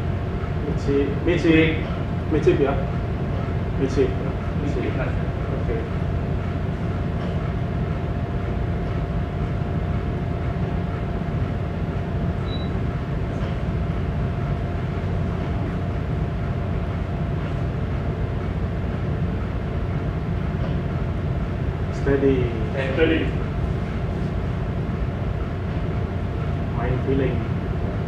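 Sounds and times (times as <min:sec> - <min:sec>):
ship engine rumble: 0:00.0 - 0:28.0
steady higher hum: 0:00.0 - 0:28.0.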